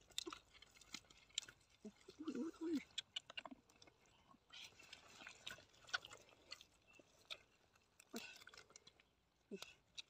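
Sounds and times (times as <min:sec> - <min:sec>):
scraping dry mud: 0:00.0 - 0:10.0.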